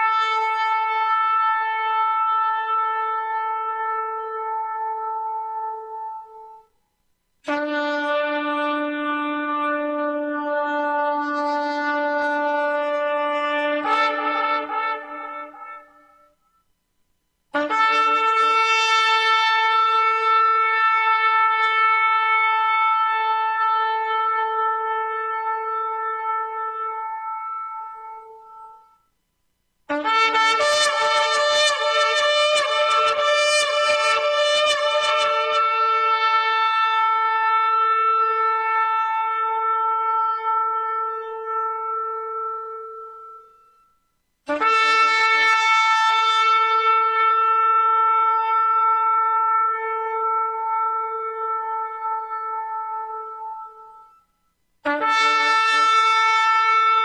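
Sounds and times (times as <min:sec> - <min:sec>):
horn blasts: 0:07.4 - 0:16.6, 0:17.5 - 0:29.0, 0:29.9 - 0:57.0.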